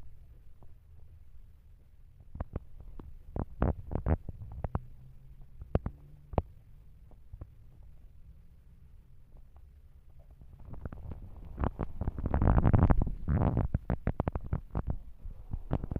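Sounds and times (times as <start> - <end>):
low steady rumble: 0.0 - 15.9.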